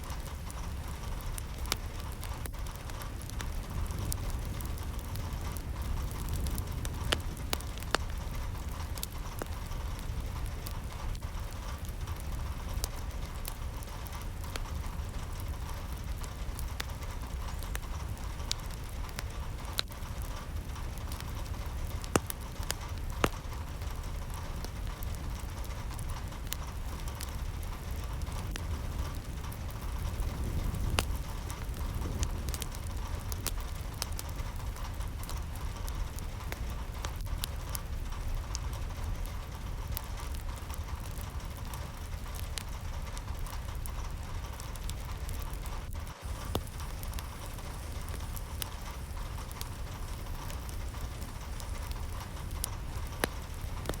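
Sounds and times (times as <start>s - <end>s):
low rumble: 0.0s - 54.0s
steady rain with drips: 0.0s - 54.0s.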